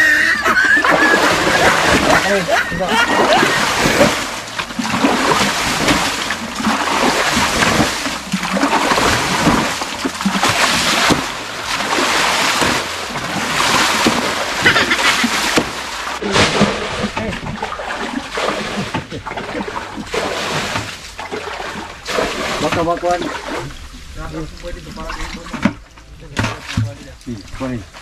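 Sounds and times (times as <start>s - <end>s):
water splashing in stream: 0.0s - 28.0s.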